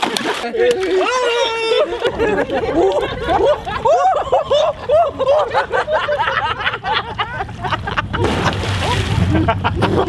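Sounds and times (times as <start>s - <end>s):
people laughing and giggling: 0.2s - 10.0s.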